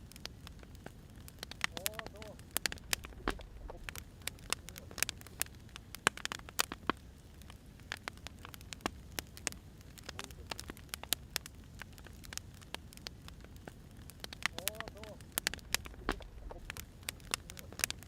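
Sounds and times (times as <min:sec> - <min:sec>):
firewood crackling and popping: 0:00.0 - 0:18.0
low rumble of fire: 0:00.0 - 0:18.0.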